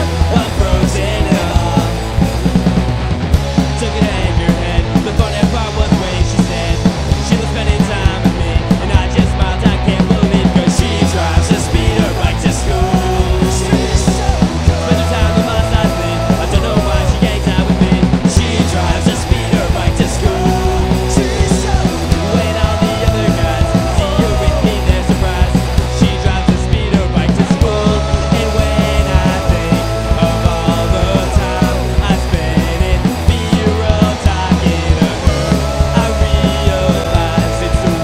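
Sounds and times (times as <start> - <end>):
loud rock music: 0.0 - 38.0.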